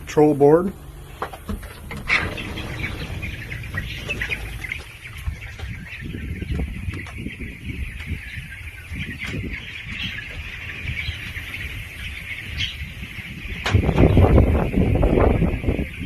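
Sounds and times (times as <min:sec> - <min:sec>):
chickens cheeping: 0:00.0 - 0:16.0
low rumbling noise: 0:00.0 - 0:16.0.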